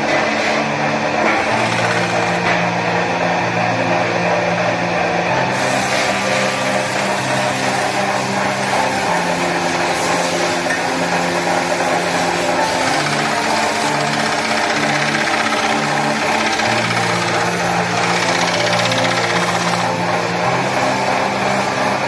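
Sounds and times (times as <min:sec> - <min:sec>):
lathe running: 0:00.0 - 0:22.0
turning tool cutting wood: 0:00.3 - 0:03.0, 0:05.5 - 0:22.0.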